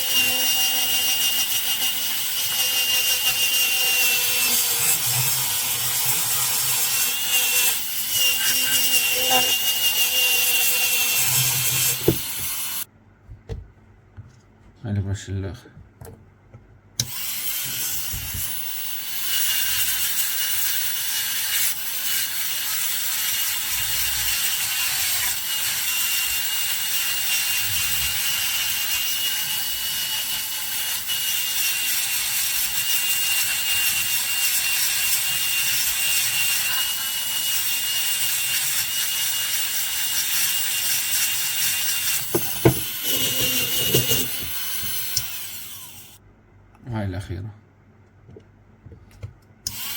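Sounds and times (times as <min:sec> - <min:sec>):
dental drill whine: 0:00.0 - 0:12.9, 0:17.0 - 0:46.2, 0:49.7 - 0:49.9.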